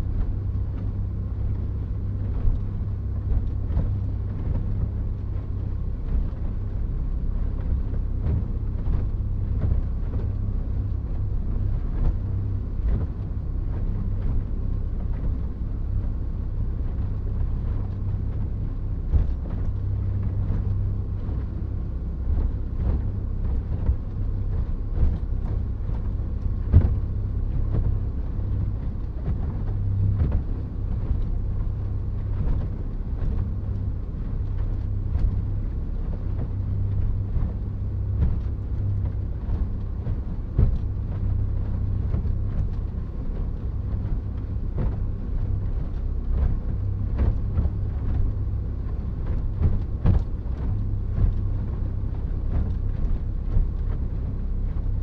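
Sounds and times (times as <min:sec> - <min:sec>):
boat engine drone: 0:00.0 - 0:55.0.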